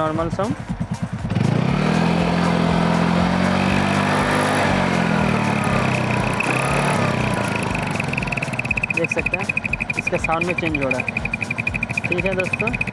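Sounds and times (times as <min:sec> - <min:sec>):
scooter engine revving: 0:00.7 - 0:12.9.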